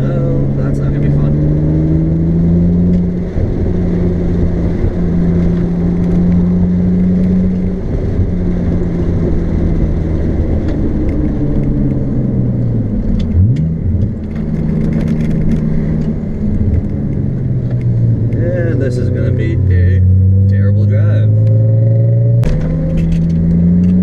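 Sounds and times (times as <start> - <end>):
car engine cruising: 0.0 - 24.0
road noise inside car: 0.0 - 24.0.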